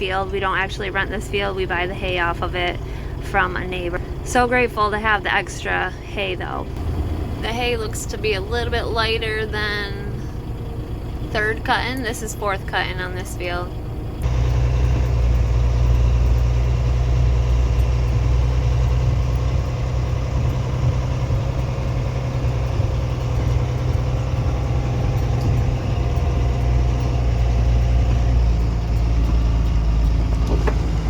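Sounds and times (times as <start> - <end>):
heavy diesel engine rumbling: 0.0 - 31.0.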